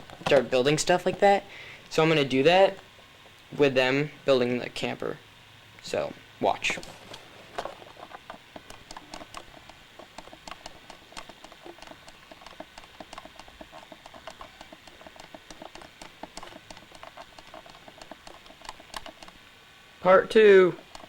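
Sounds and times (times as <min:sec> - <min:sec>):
rapid irregular clicking: 0:00.0 - 0:03.7, 0:05.8 - 0:21.0
low hiss: 0:00.0 - 0:21.0.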